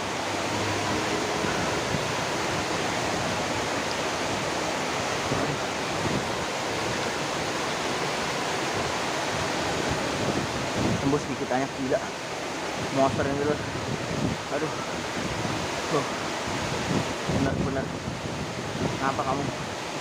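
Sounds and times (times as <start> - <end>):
shallow water rushing: 0.0 - 20.0.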